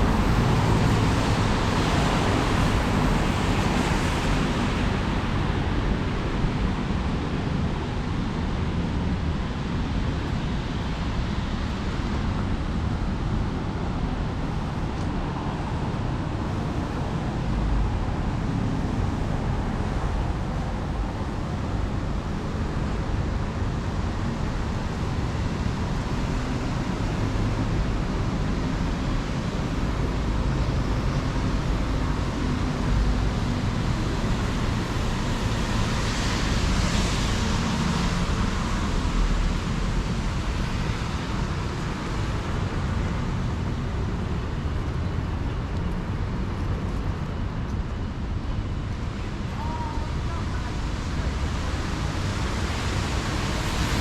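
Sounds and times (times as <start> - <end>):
city street traffic: 0.0 - 54.0.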